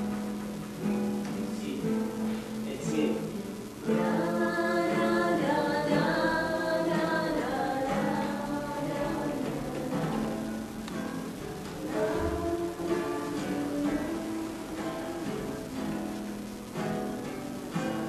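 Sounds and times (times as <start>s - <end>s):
acoustic guitar music: 0.0s - 18.0s
person singing: 0.0s - 18.0s.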